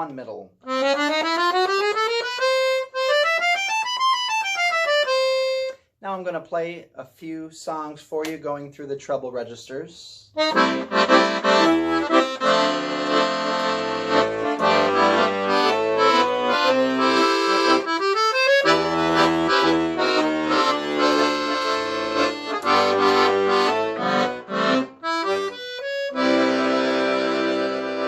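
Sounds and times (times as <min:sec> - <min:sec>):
piano accordion playing a tune: 0:00.6 - 0:05.8, 0:10.4 - 0:28.0.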